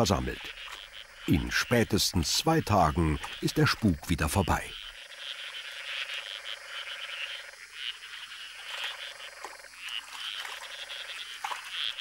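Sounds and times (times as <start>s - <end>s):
frogs chirping: 0.0s - 12.0s
low rattling frog trill: 0.0s - 12.0s.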